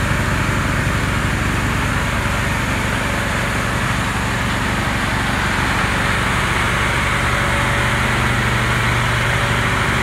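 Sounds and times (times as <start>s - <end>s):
generator engine hum: 0.0s - 10.0s.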